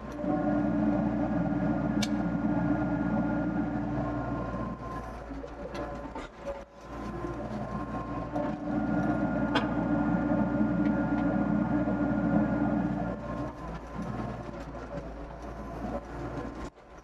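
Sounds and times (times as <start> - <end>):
mini excavator running: 0.0 - 17.0.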